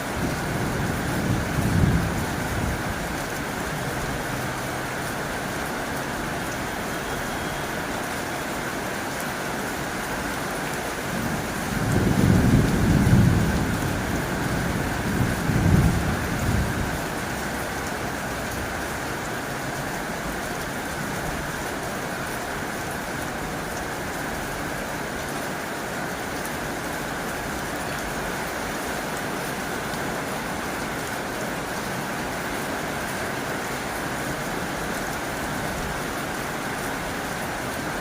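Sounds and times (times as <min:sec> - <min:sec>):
heavy rain on a tin roof: 0:00.0 - 0:38.0.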